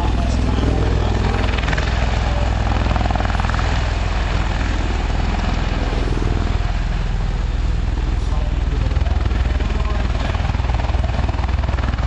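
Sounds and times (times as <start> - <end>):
helicopter rotor throbbing: 0.0 - 12.0.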